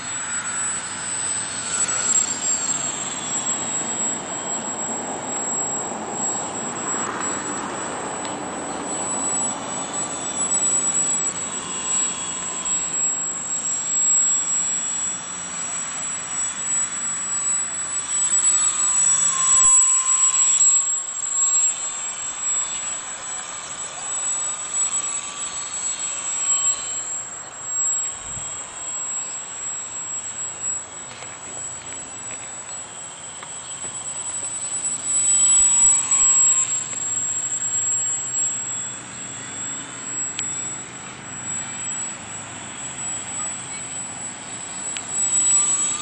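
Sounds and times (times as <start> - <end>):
model plane motor droning: 0.0 - 46.0.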